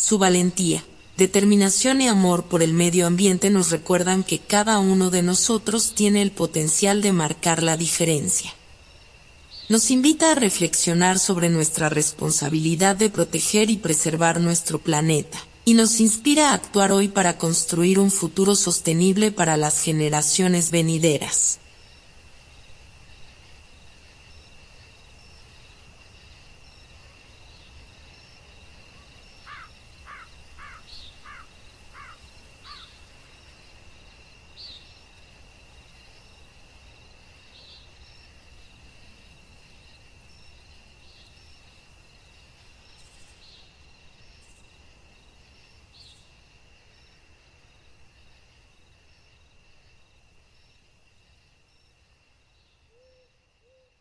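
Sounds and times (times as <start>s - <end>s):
cricket trill: 0.0s - 54.0s.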